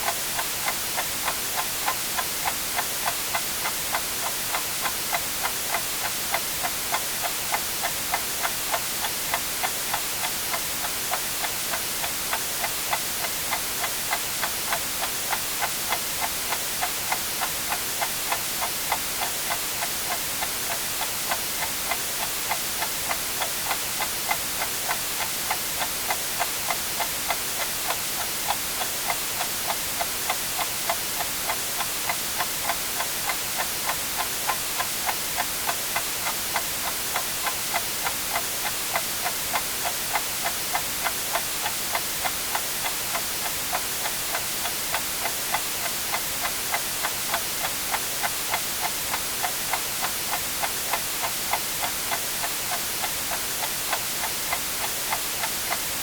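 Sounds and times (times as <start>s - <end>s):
white noise hiss: 0.0s - 56.0s
clock ticking: 0.1s - 56.0s.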